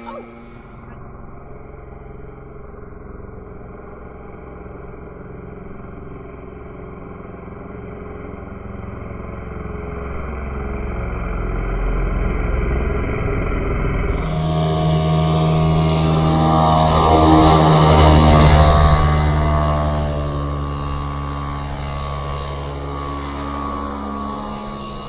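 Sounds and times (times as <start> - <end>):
model airplane engine running: 0.0 - 25.0.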